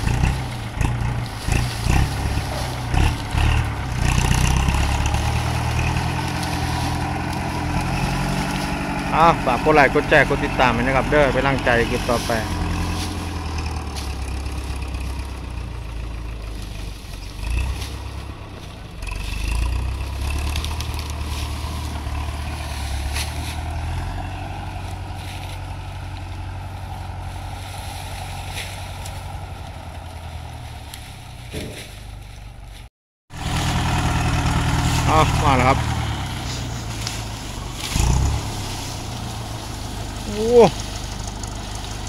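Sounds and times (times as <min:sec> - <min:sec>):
scraping: 0:00.0 - 0:09.5, 0:10.4 - 0:42.0
engine humming: 0:00.0 - 0:42.0.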